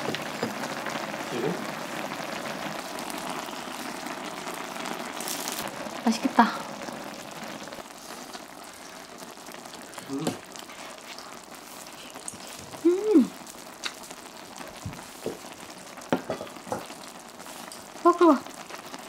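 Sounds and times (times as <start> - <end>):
stew bubbling: 0.0 - 19.0.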